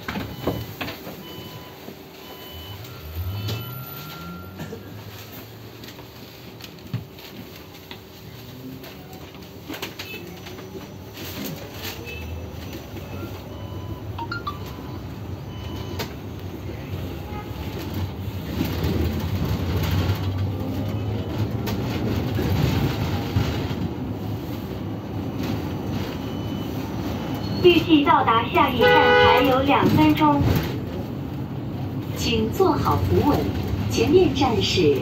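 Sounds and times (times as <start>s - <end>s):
bus engine rumble: 0.0s - 35.0s
road noise: 0.0s - 35.0s.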